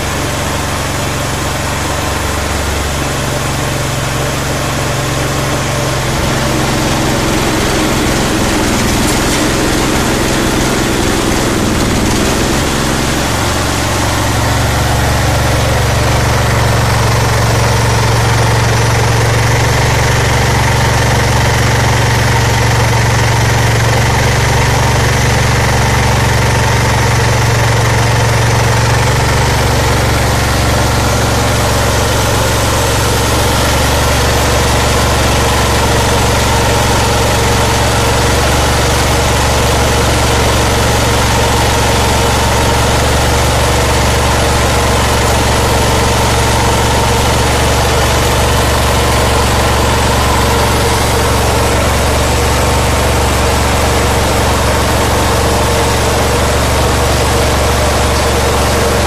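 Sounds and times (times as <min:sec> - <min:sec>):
small engine humming: 0:00.0 - 0:59.0.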